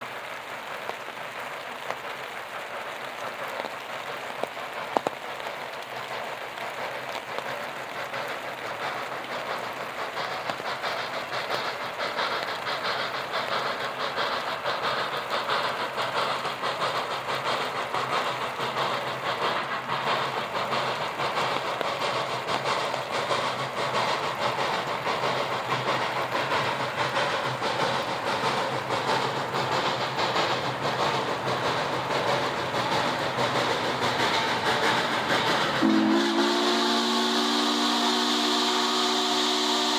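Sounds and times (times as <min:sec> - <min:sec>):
steady rain: 0:00.0 - 0:39.9
steam train: 0:00.0 - 0:39.9.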